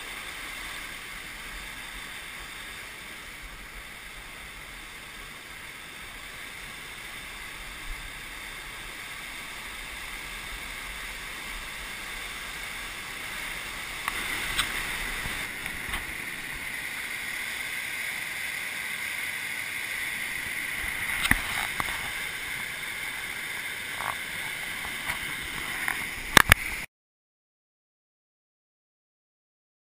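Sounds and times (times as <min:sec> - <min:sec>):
river rapids rushing: 0:00.0 - 0:26.9.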